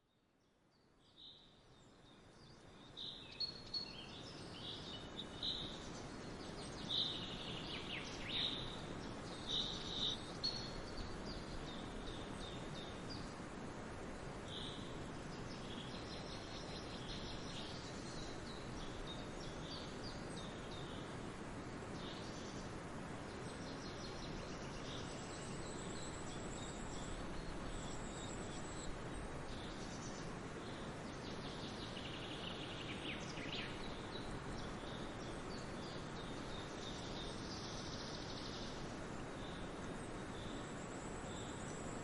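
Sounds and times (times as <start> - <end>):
songbirds chirping: 0.0 - 42.0
steady background hiss: 0.0 - 42.0.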